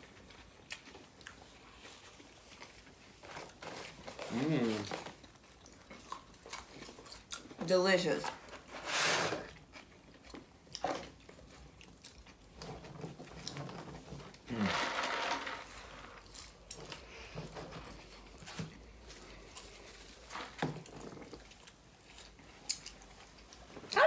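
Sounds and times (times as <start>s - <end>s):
people chewing food: 0.0s - 7.6s, 9.4s - 24.0s.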